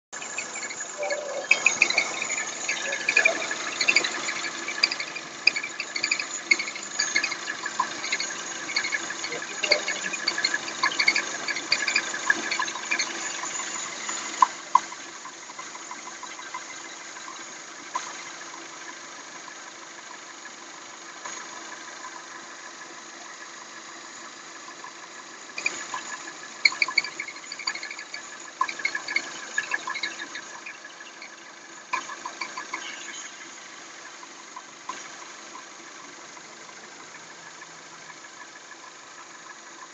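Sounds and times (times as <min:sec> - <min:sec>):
car engine idling: 0:00.1 - 0:39.9
fast chirping from engine: 0:00.1 - 0:39.9.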